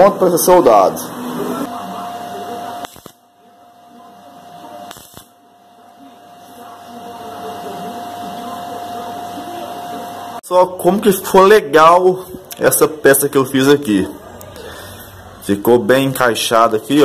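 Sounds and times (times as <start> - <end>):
arc welder buzzing: 0.0 - 17.0.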